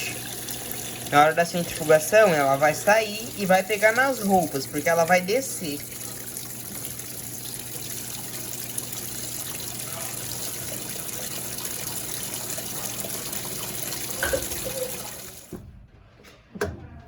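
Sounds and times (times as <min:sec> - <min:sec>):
water running into a dispenser: 0:00.0 - 0:15.6.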